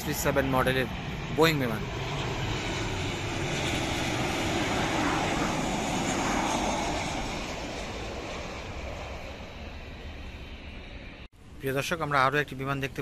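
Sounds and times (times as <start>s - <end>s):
jet airliner engine noise: 0.0s - 13.0s.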